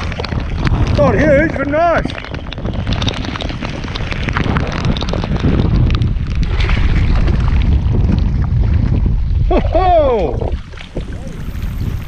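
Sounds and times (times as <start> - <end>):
sharp ticks and splashes: 0.0 - 12.0
wind buffeting microphone: 0.0 - 12.0.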